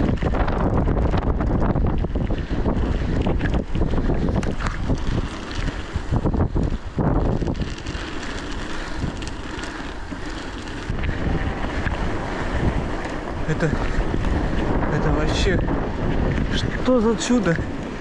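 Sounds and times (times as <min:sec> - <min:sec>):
blizzard wind on microphone: 0:00.0 - 0:18.0.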